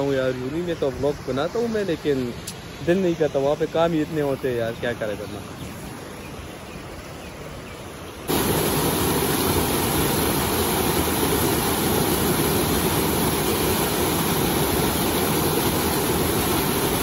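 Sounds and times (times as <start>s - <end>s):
shallow stream flowing: 0.0s - 17.0s
waterfall rushing over boulders: 0.0s - 17.0s.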